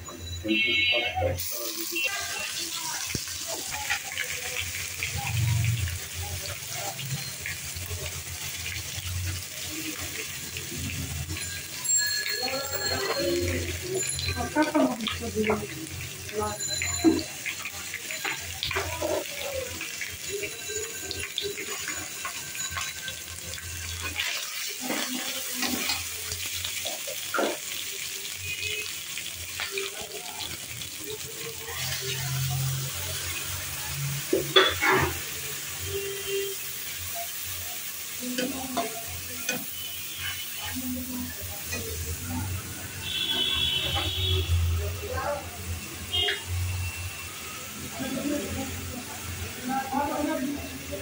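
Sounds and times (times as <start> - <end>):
oil sizzling in a wok: 0.2 - 51.0
water bubbling in pan: 1.9 - 49.6.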